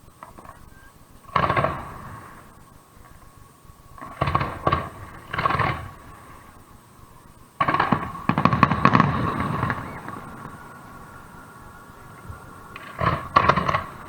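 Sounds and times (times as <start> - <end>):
crackling reports: 0.0 - 14.0
fireworks bursting: 0.0 - 14.0.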